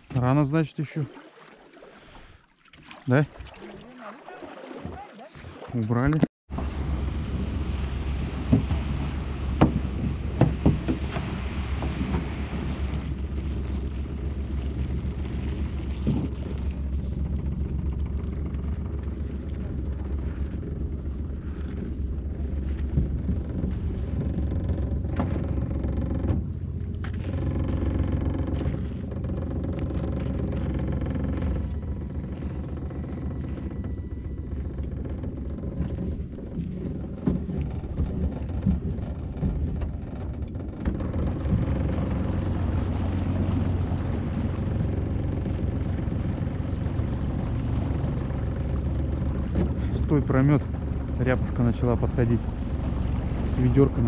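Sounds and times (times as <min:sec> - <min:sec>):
outboard motor running: 0:00.0 - 0:54.0
knocks against hull: 0:04.4 - 0:54.0.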